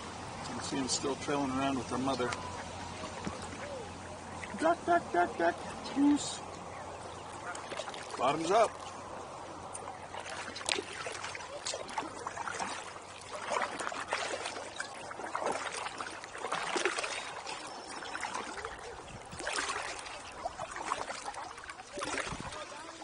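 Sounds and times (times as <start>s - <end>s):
paddle splashing: 0.0s - 23.0s
water dripping off paddle: 2.1s - 23.0s.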